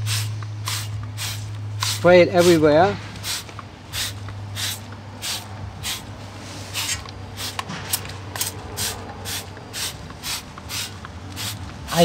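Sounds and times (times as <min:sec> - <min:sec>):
spray can hissing bursts: 0:00.0 - 0:02.6, 0:03.2 - 0:12.0
steady low hum: 0:00.0 - 0:12.0.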